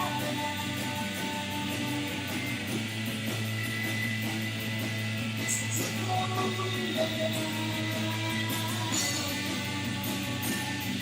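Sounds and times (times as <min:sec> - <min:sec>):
noise-rock band droning guitars: 0:00.0 - 0:11.0.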